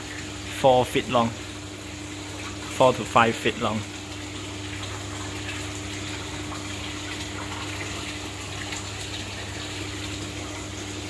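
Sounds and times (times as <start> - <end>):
low steady hum: 0.0 - 11.0
running water rushing: 0.0 - 11.0.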